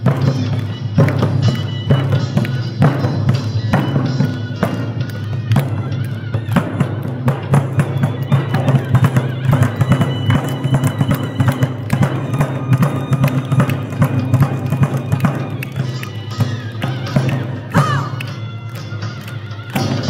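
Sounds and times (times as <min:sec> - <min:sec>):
traditional drum music: 0:00.0 - 0:20.0.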